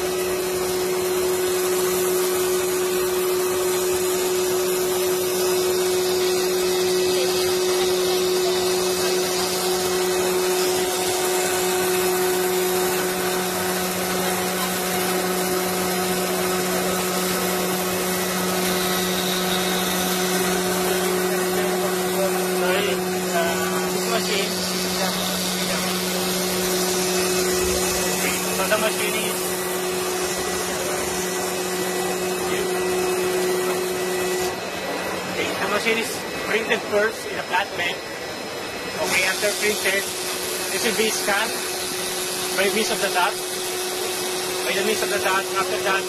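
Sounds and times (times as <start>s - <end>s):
router spindle whine: 0.0s - 46.0s
vacuum hiss: 0.0s - 46.0s.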